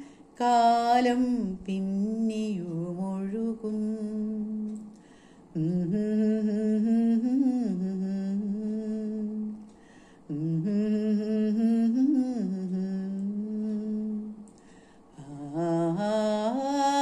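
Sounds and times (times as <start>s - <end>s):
woman humming a melody: 0.0s - 4.9s, 5.6s - 9.7s, 10.3s - 14.4s, 15.2s - 17.0s.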